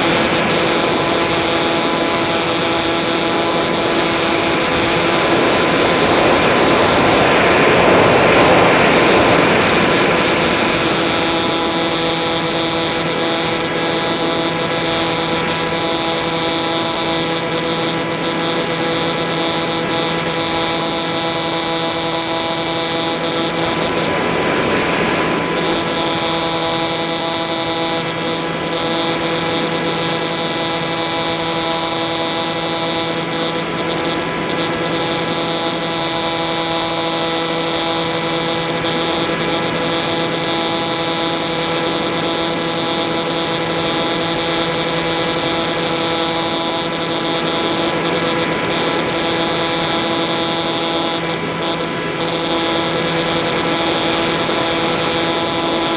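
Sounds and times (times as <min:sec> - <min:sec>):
airflow noise: 0:00.0 - 0:55.9
electric motor and propeller whine: 0:00.0 - 0:55.9.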